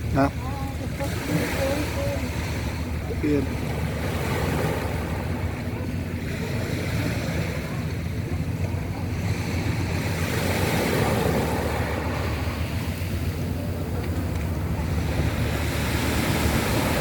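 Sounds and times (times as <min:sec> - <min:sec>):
waves on a pebble beach: 0:00.0 - 0:17.0
wind rumbling on microphone: 0:00.0 - 0:17.0.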